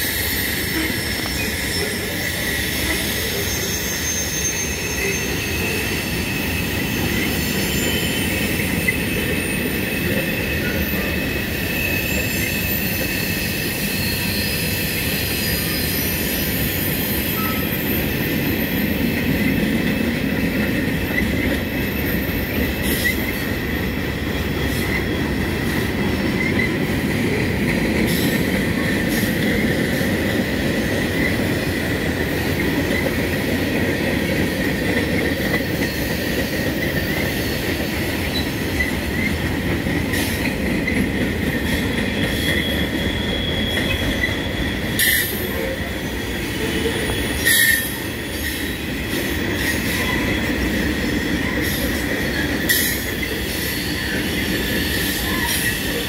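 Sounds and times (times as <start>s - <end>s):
high wheel squeal: 0.0s - 56.0s
train wheels rumbling on rail: 0.0s - 56.0s.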